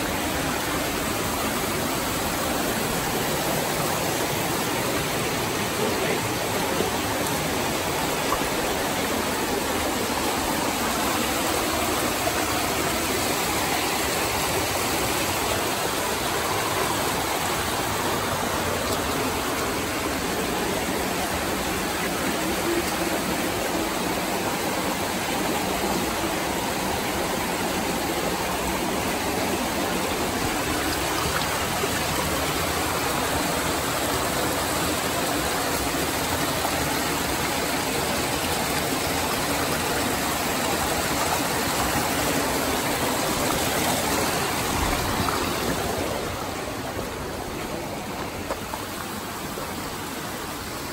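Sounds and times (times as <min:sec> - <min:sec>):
stream rushing over boulders: 0:00.0 - 0:50.9.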